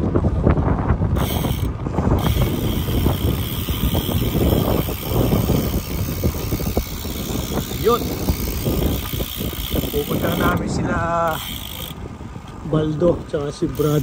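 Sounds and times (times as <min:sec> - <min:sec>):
wind buffeting microphone: 0:00.0 - 0:14.0
bicycle rattling and clattering: 0:01.1 - 0:12.1, 0:13.5 - 0:14.0.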